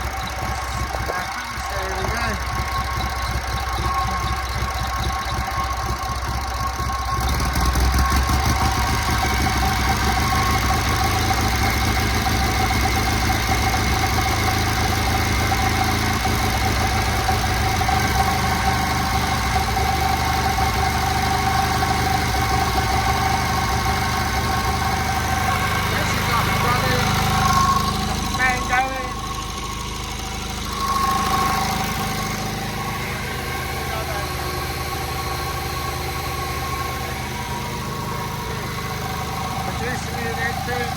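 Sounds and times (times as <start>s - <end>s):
generator high whining: 0.0s - 40.9s
stationary engine running: 0.0s - 40.9s.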